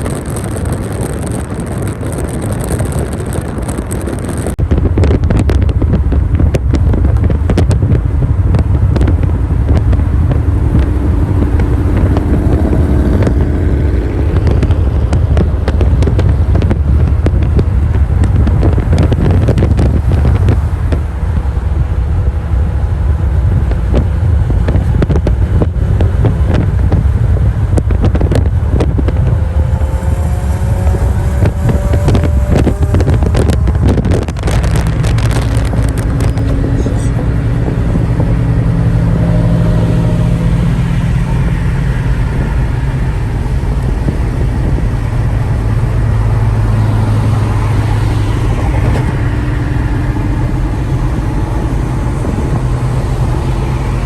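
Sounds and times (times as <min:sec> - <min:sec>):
car engines running: 0:00.0 - 0:54.0
wind buffeting microphone: 0:00.0 - 0:54.0.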